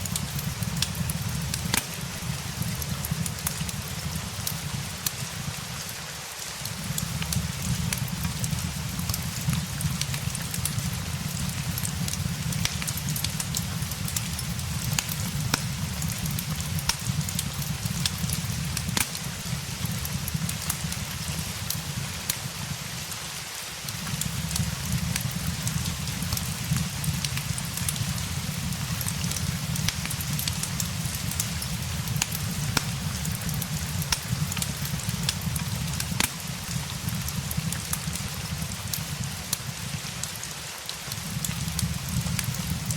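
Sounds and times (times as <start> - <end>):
steady rain: 0.0 - 42.9
wood fire crackling: 0.0 - 42.9.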